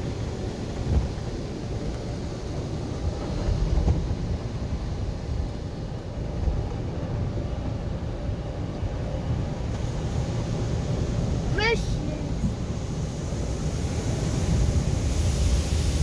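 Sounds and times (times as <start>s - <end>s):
car wash rumble: 0.0s - 16.0s.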